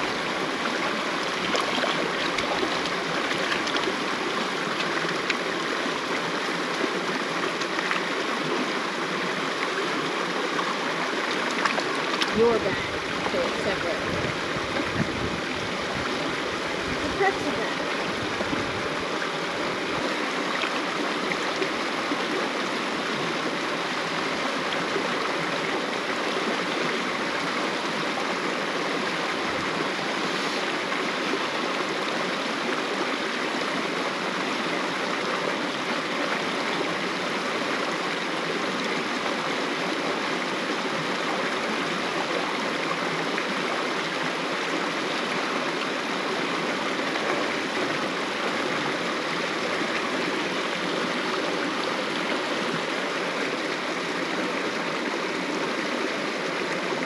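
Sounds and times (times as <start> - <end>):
creek water running over rocks: 0.0 - 57.0.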